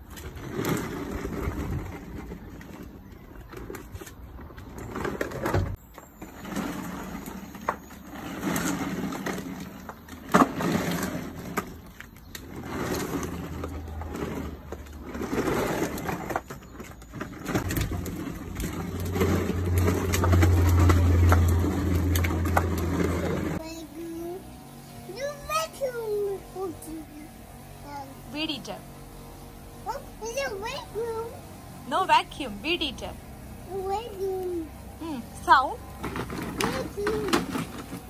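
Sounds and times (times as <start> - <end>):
plastic wheels grinding on pavement: 0.0 - 38.0.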